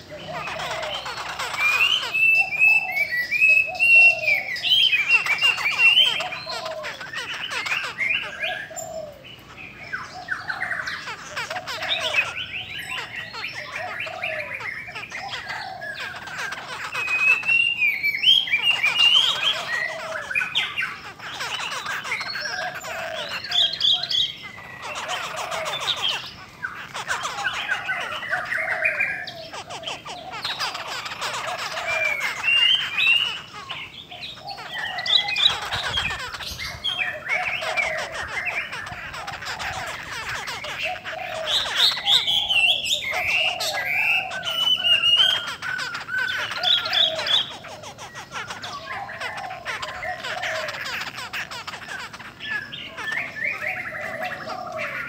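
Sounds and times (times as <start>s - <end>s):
bird chatter: 0.0s - 55.0s
birds singing whistled phrases: 0.0s - 55.0s.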